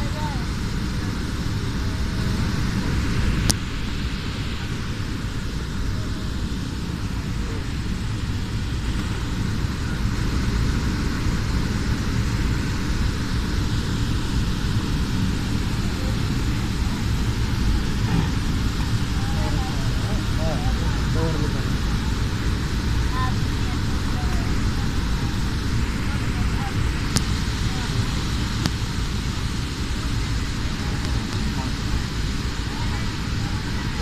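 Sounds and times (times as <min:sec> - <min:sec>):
jet airliner taking off: 0:00.0 - 0:34.0.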